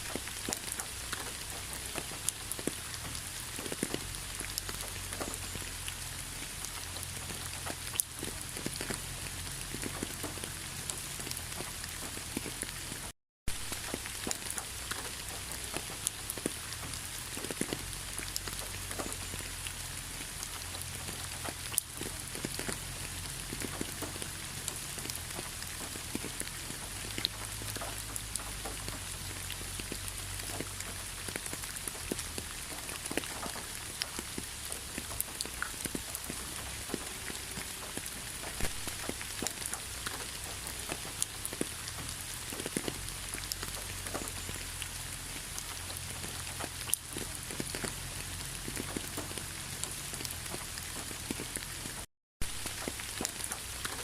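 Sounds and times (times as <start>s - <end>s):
rain drops on hard surface: 0.0s - 54.0s.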